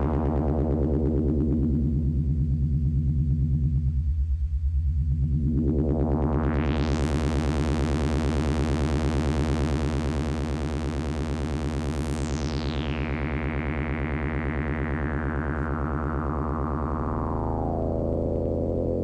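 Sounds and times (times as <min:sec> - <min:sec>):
pulsing synthesizer drone: 0:00.0 - 0:19.0.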